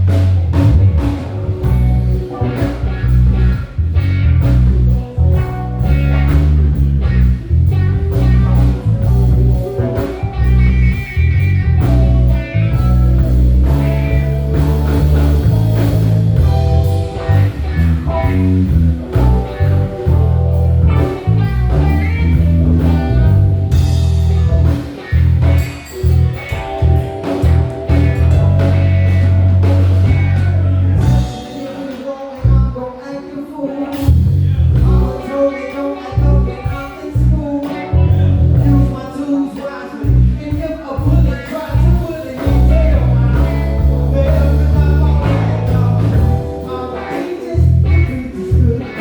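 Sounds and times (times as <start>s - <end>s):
heavy bass line: 0.0s - 32.8s, 34.0s - 35.5s, 36.1s - 39.1s, 40.0s - 49.0s
blues-rock band playing: 0.0s - 49.0s
electric guitar: 0.0s - 49.0s.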